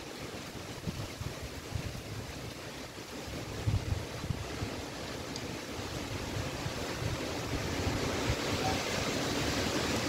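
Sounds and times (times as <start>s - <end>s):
strong wind blowing: 0.0s - 10.0s
wind buffeting microphone: 0.0s - 10.0s.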